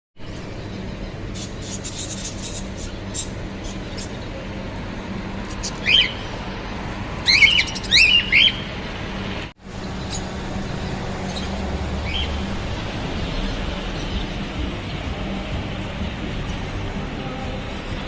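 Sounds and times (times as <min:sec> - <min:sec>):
birds chirping: 0:00.2 - 0:18.0.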